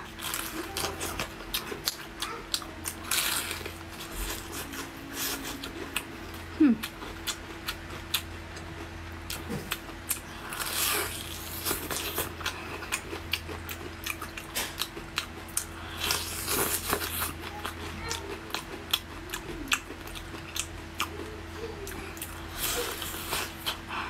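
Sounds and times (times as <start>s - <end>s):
chewing with mouth clicks: 0.0s - 24.0s.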